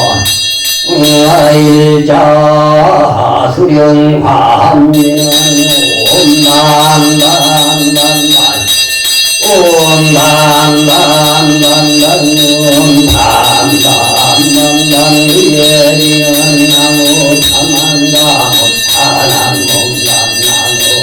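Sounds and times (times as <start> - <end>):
bell ringing: 0.0 - 2.3, 4.9 - 21.0
man chanting: 0.0 - 21.0.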